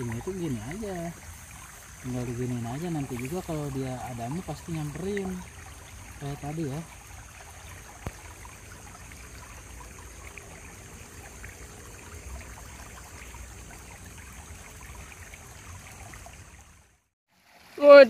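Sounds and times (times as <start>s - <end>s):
stream trickling over rocks: 0.0s - 18.0s.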